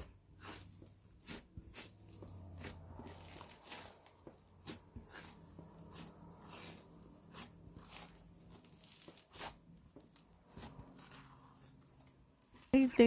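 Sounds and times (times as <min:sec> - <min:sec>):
slime crackling and squelching: 0:00.0 - 0:13.0.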